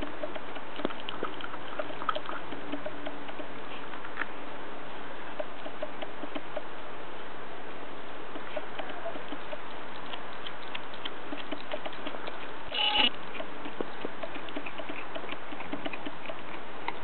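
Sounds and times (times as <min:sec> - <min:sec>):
puppy chewing wet food: 0:00.0 - 0:07.0, 0:08.0 - 0:17.0.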